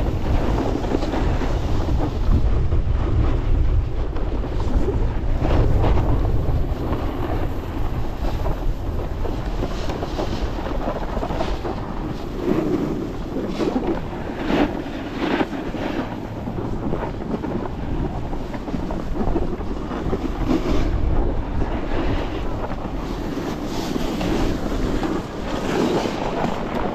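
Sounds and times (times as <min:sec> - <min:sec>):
snowboard scraping over snow: 0:00.0 - 0:26.9
wind buffeting microphone: 0:00.0 - 0:26.9.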